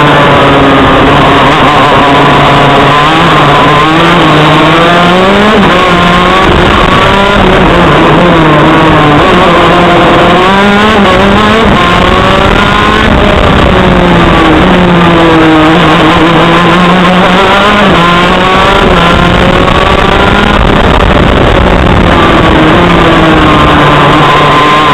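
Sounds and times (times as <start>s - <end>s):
kart engine revving: 0.0s - 24.9s.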